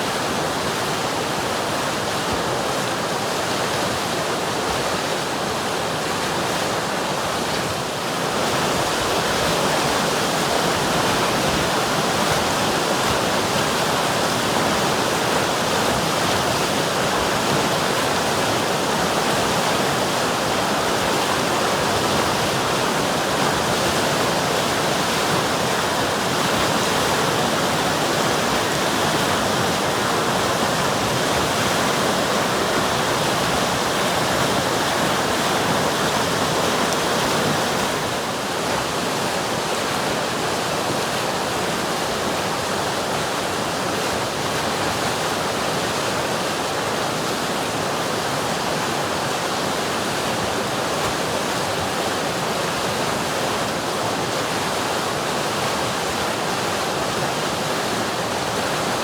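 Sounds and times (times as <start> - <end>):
river water rushing and splashing: 0.0 - 59.0.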